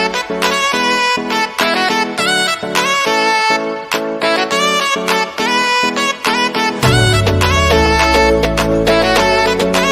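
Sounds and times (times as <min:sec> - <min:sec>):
instrumental background music: 0:00.0 - 0:09.9.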